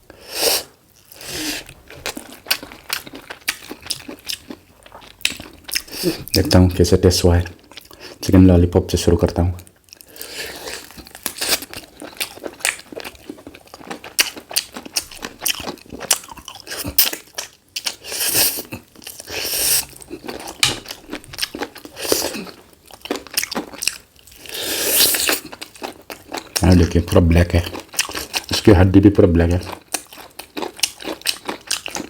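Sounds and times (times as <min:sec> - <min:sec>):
person chewing a lollipop: 0:01.0 - 0:06.6, 0:09.7 - 0:28.7, 0:29.5 - 0:32.0.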